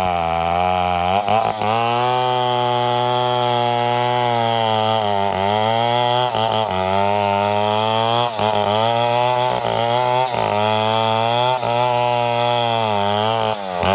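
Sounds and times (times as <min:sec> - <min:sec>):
chainsaw cutting wood: 0:00.0 - 0:13.9.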